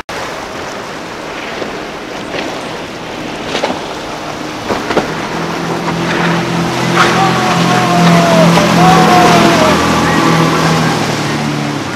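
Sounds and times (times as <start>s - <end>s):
boat engines passing: 0.0s - 11.9s
hiss of spray and wake: 0.0s - 11.9s
sharp water splashes: 0.0s - 11.9s.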